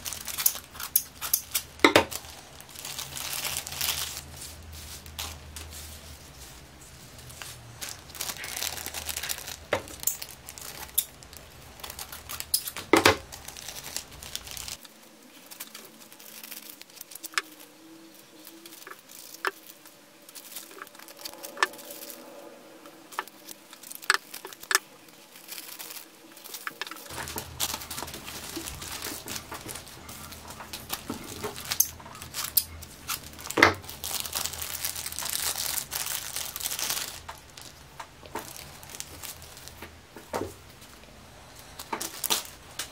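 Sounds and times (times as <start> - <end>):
plastic bags crinkling: 0.0 - 42.9.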